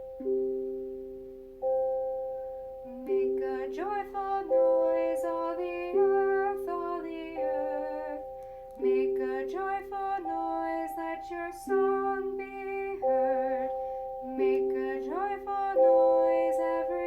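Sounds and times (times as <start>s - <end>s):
keyboard chords: 0.0s - 17.0s
person singing melody: 0.0s - 17.0s.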